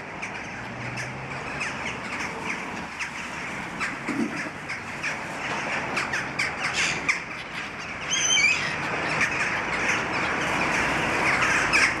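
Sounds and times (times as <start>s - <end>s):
gulls squawking: 0.0s - 12.0s.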